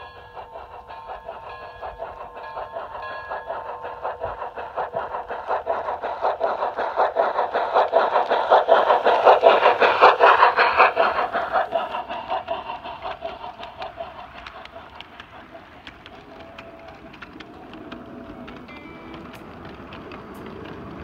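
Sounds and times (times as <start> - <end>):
model train clicking on track: 0.0 - 21.0.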